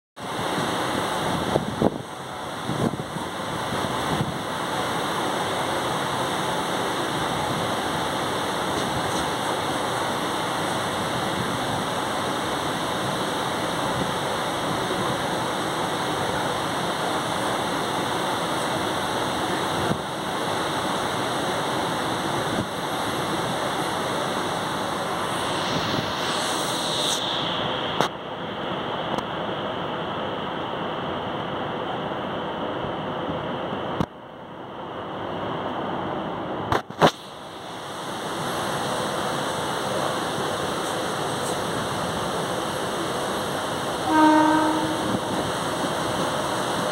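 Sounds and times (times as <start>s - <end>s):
wind and train running noise: 0.2s - 46.9s.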